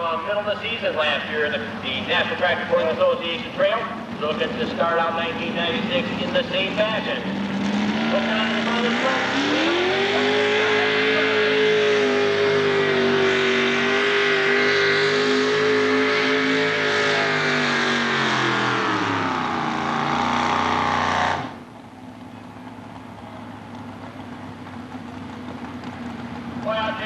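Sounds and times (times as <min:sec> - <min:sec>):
truck engine at full throttle: 0:00.0 - 0:27.0.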